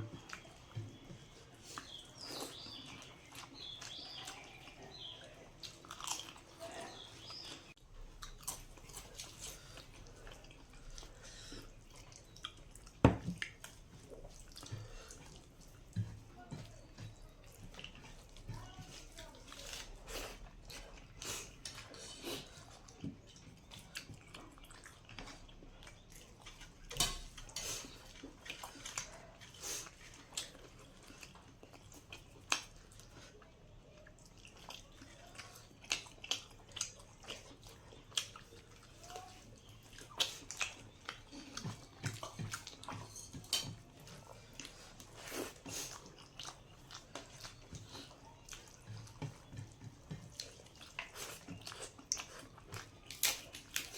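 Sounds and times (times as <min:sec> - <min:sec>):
person chewing and lip-smacking: 0:00.0 - 0:06.5, 0:07.1 - 0:53.9.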